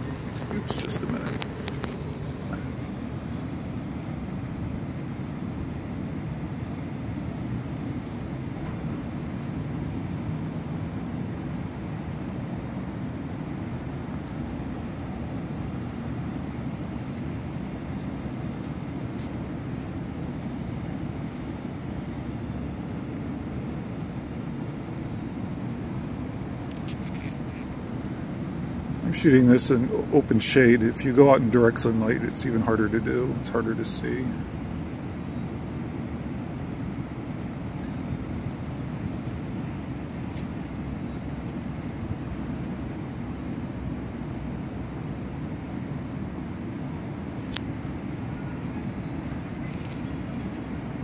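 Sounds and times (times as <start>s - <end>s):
low outdoor rumble: 0.0s - 51.0s.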